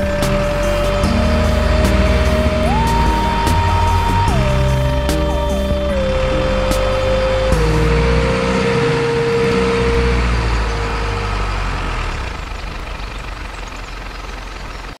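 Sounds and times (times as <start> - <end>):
whining tone: 0.0 - 14.6
truck engine rumbling: 0.0 - 15.0.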